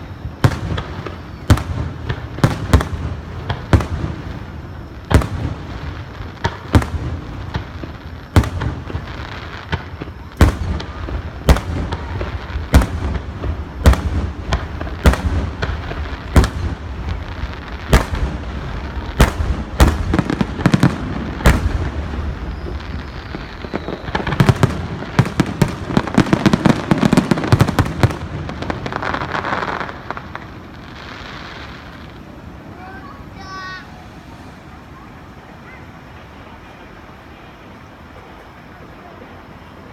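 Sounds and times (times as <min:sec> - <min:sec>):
fireworks bursting bangs: 0:00.0 - 0:38.3.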